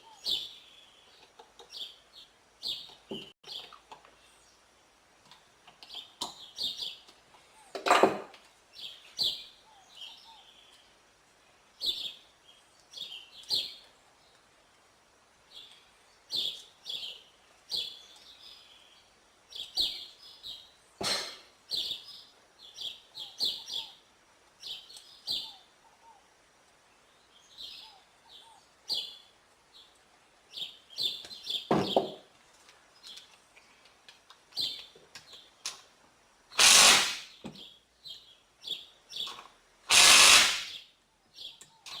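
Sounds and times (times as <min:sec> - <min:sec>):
small birds chirping: 0:00.0 - 0:07.8, 0:08.4 - 0:42.0.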